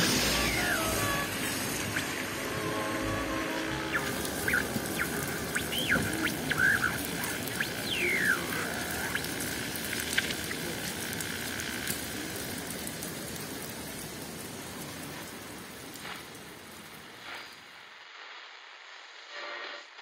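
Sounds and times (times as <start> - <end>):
raindrops ticking: 0.0 - 17.2
rain on stone paving: 0.0 - 18.1.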